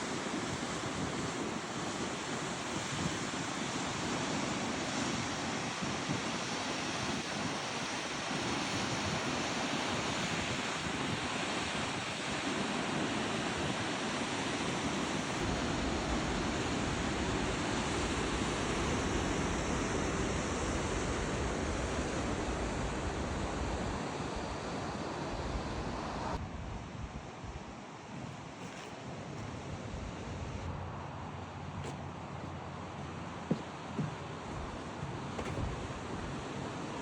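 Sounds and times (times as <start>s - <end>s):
wind rumble on microphone: 0.0s - 31.0s, 32.5s - 37.0s.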